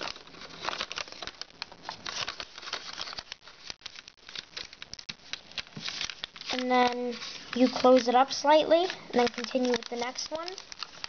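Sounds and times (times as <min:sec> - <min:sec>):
foil paper crinkling: 0:00.0 - 0:11.0.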